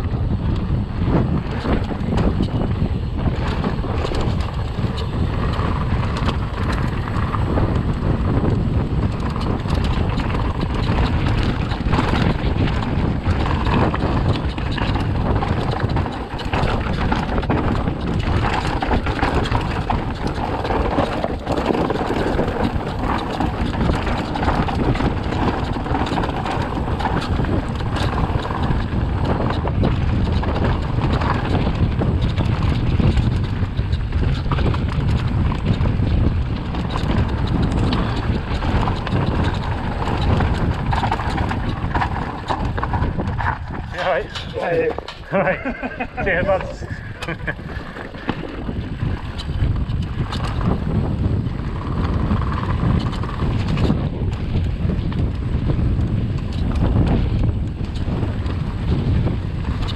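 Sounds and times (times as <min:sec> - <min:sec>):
bike rattling over stony track: 0:00.0 - 0:59.9
bike tyre noise: 0:00.0 - 0:59.9
wind on microphone: 0:00.0 - 0:59.9.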